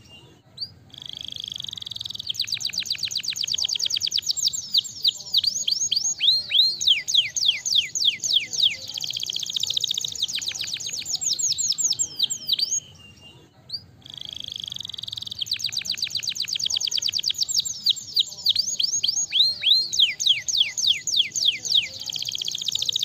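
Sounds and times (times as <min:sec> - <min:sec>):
canary singing: 0:00.0 - 0:23.0.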